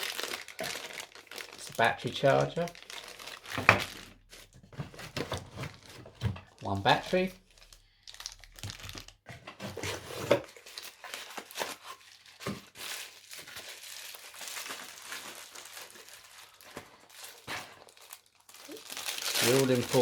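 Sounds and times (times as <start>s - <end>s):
packaging crinkling and rustling: 0.0s - 20.0s.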